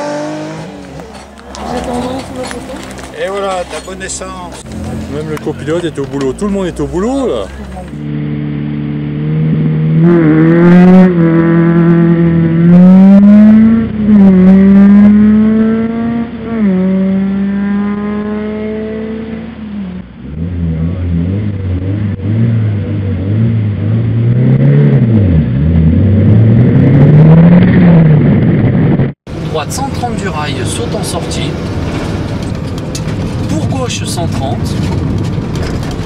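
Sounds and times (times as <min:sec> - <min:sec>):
rally car engine revving: 0:00.0 - 0:36.0.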